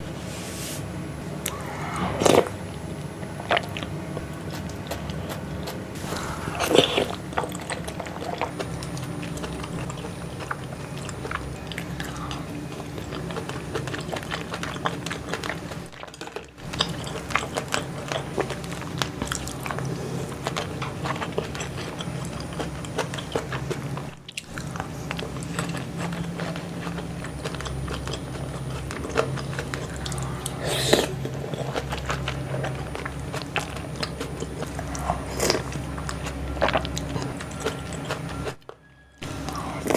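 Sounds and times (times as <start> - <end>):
person chewing and biting: 1.3 - 39.9.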